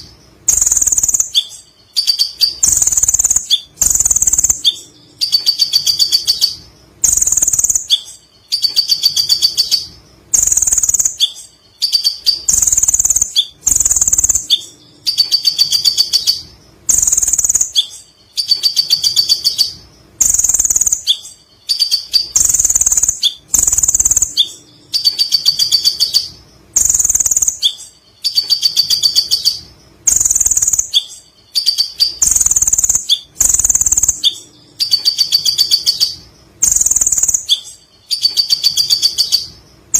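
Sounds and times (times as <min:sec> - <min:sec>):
bird singing rapid chattering song: 0:00.0 - 0:39.9.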